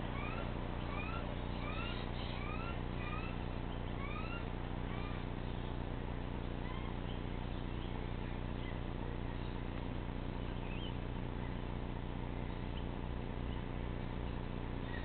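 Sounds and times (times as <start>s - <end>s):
bird chirps: 0.0s - 15.0s
steady low hum and hiss: 0.0s - 15.0s.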